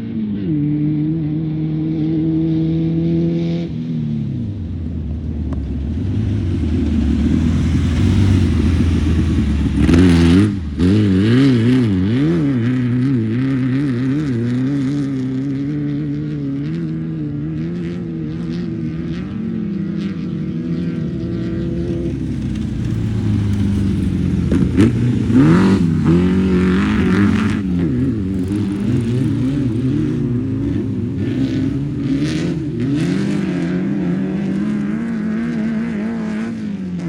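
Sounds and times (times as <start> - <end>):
race car engine revving: 6.0 - 37.0.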